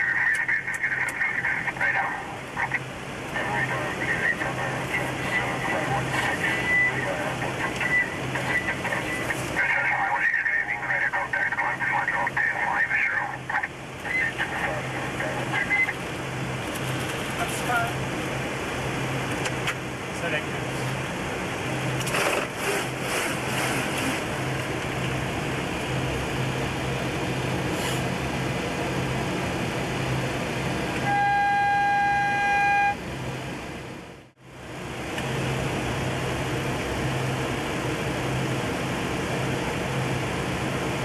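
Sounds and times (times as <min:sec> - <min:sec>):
cockpit airflow and engine noise: 0:00.0 - 0:41.0.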